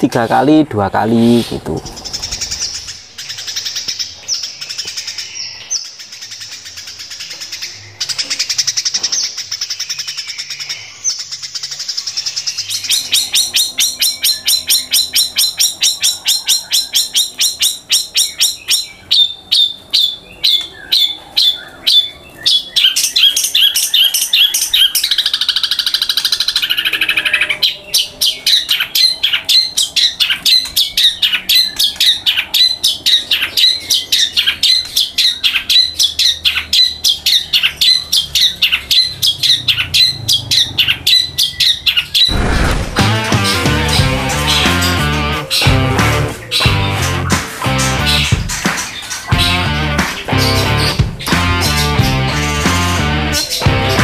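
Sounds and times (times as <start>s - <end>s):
songbird chirping rapidly: 0.0s - 54.0s.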